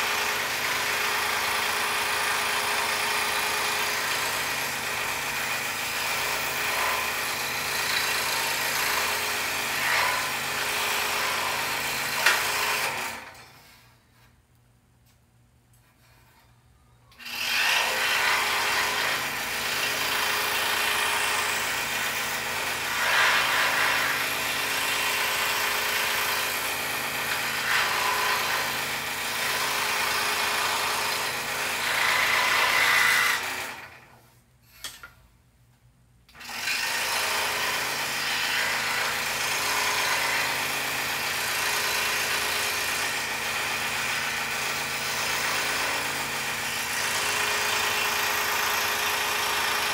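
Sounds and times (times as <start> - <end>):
saw blade rasping through wood: 0.0 - 13.4, 17.2 - 33.8, 36.5 - 49.9.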